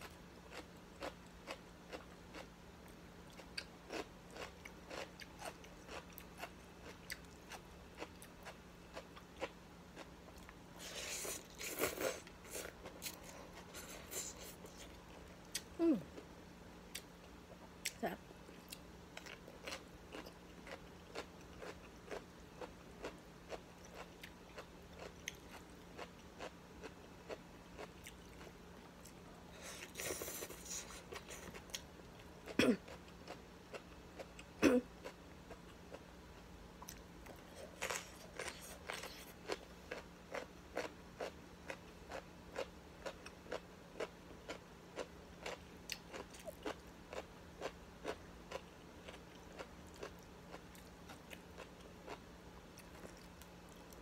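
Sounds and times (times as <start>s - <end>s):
chewing crunchy vegetables: 0.0s - 15.8s, 16.9s - 54.0s.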